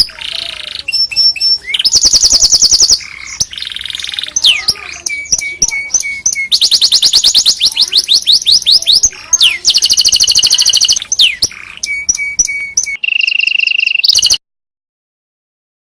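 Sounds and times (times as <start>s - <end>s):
canary singing: 0.0s - 14.4s.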